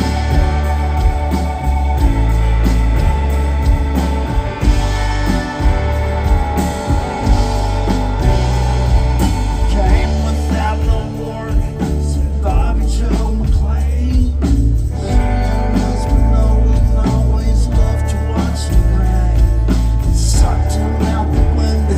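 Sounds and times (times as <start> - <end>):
rock band playing live: 0.0 - 21.9.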